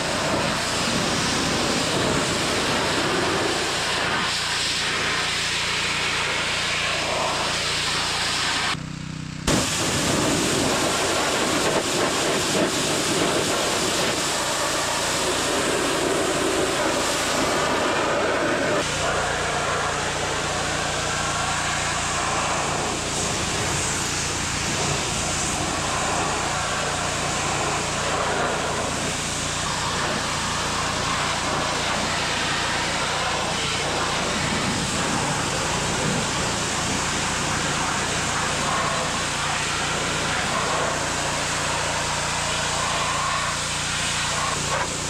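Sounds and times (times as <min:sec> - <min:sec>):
machine running with hiss and hum: 0:00.0 - 0:45.0.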